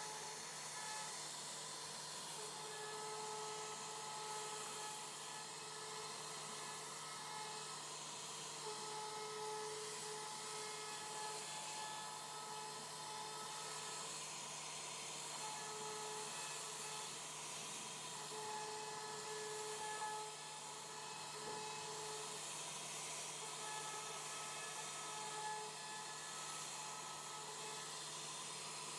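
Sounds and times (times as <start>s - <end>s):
router spindle whining: 0.0s - 28.9s.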